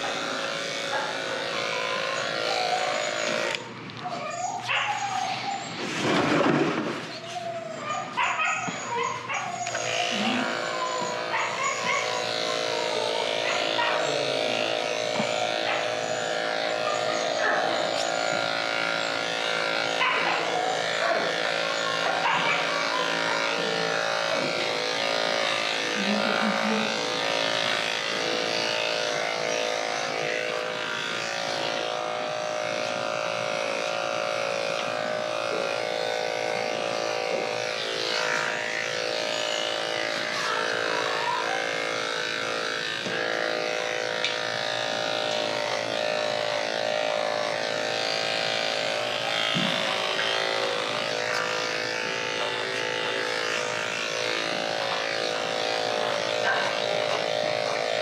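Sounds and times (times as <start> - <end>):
electric clippers humming: 0.0 - 58.0.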